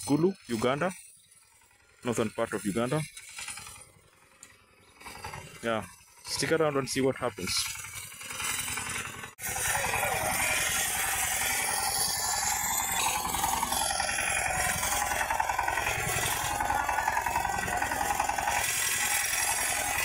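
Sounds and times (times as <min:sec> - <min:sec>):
walking tractor engine running: 0:00.0 - 0:20.0.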